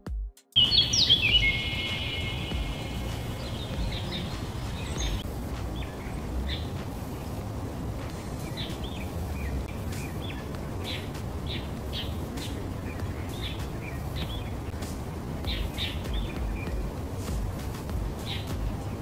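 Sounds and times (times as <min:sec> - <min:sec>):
birds chirping: 0:00.6 - 0:19.0
low background rumble: 0:00.6 - 0:19.0.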